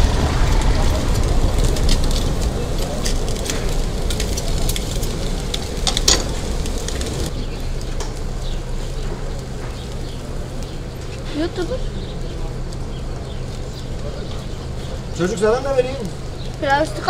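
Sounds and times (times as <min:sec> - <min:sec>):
steady low hum: 0:00.0 - 0:16.9
steady low rumble: 0:00.0 - 0:17.0.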